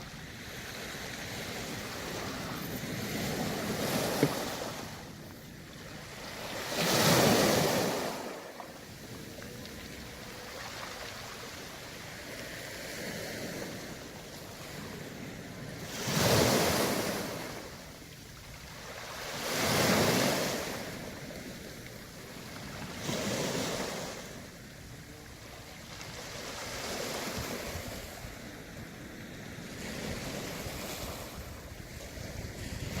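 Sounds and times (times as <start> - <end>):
waves breaking on pebble beach: 0.0 - 24.6, 25.8 - 28.7.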